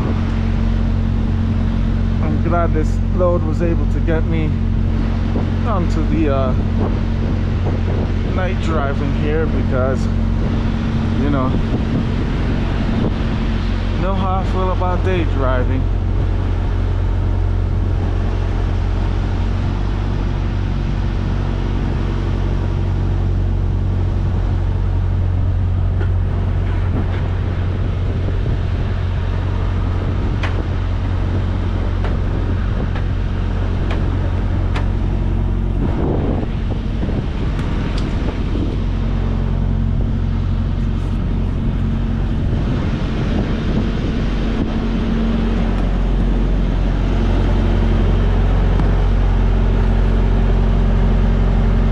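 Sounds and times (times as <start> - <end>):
diesel engine drone: 0.0 - 51.9
road noise: 0.0 - 51.9.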